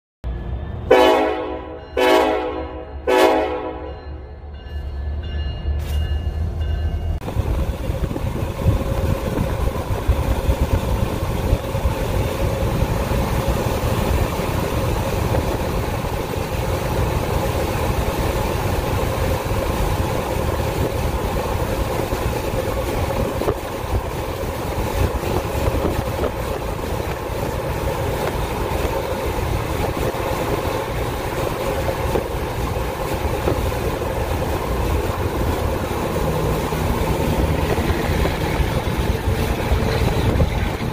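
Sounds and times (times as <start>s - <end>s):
freight train rumbling past: 0.2s - 40.9s
wheel and rail noise: 3.7s - 40.9s.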